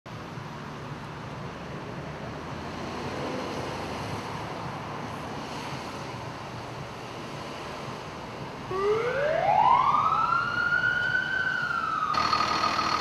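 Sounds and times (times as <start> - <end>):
road traffic noise: 0.1 - 13.0.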